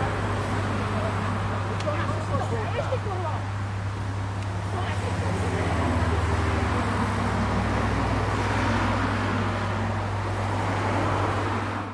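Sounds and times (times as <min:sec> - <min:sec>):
road or rail noise: 0:00.0 - 0:11.9
vehicle engine humming: 0:00.0 - 0:11.9.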